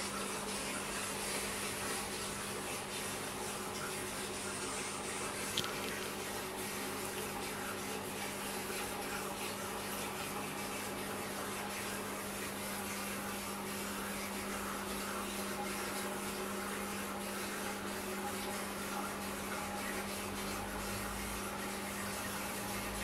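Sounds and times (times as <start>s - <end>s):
equipment hum with hiss: 0.0s - 19.4s.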